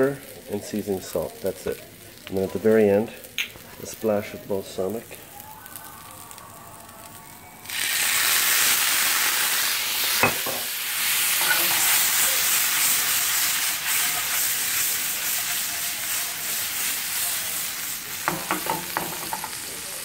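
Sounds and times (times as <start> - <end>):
mushrooms sizzling in a frying pan: 0.0 - 20.0.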